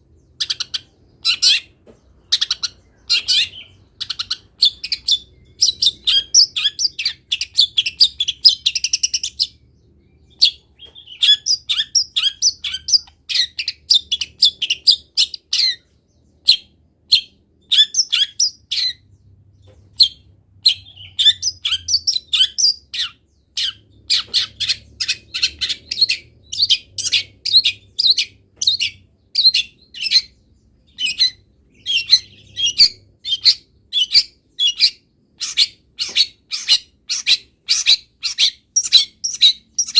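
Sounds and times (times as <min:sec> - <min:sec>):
bird chirping and whistling: 0:00.4 - 0:01.7, 0:02.3 - 0:09.6, 0:10.2 - 0:15.8, 0:16.5 - 0:19.0, 0:20.0 - 0:39.9.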